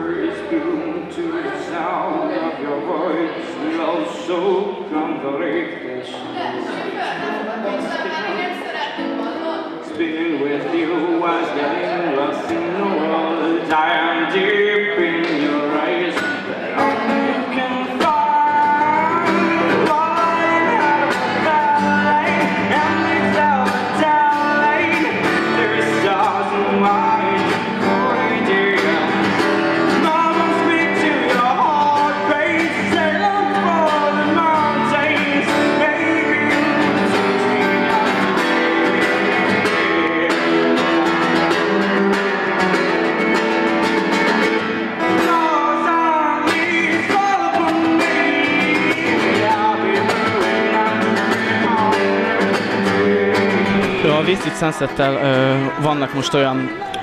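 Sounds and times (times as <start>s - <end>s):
man singing: 0.0s - 6.9s, 9.8s - 57.0s
strummed acoustic guitar: 0.0s - 57.0s.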